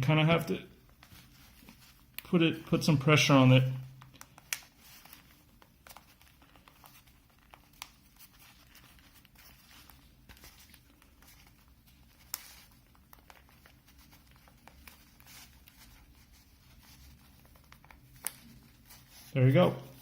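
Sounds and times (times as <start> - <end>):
ear pad rustling and crinkling: 0.7 - 3.2, 3.8 - 20.0.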